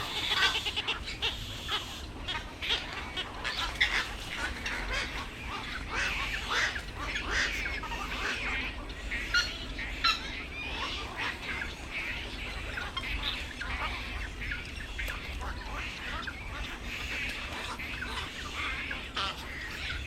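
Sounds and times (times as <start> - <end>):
herons squawking: 0.0 - 20.0.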